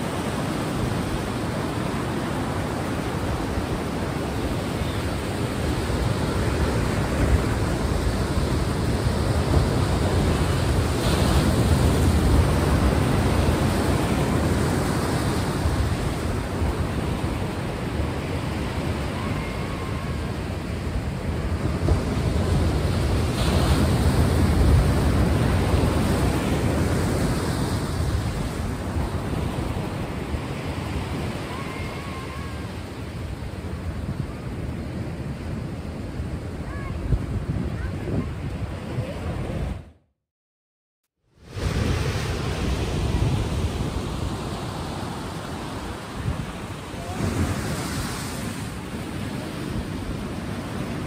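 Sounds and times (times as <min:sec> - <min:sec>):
ocean waves: 0:00.0 - 0:40.0, 0:41.3 - 0:51.0.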